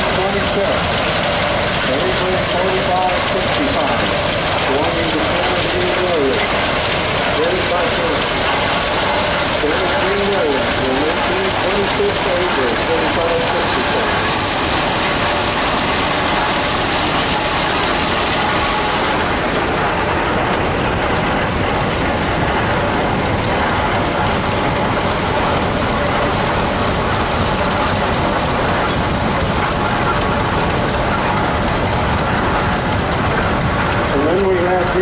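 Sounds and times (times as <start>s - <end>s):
tractor engines clattering: 0.0s - 35.0s.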